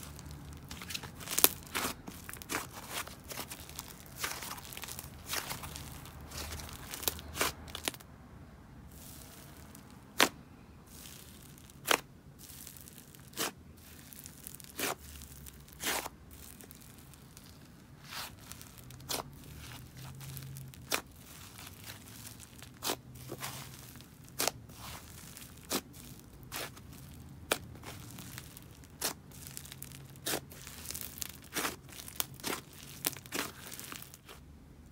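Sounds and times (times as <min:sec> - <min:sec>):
slime popping and crackling: 0:00.0 - 0:08.0, 0:08.9 - 0:34.4.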